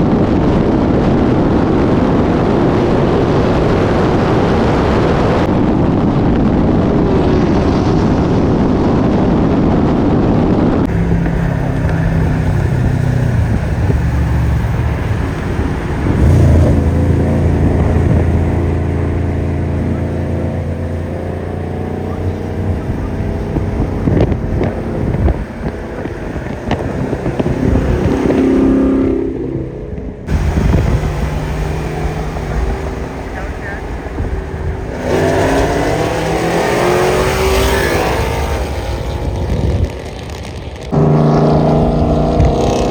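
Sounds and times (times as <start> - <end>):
car engines accelerating: 0.0 - 42.9
wind buffeting microphone: 0.0 - 42.9.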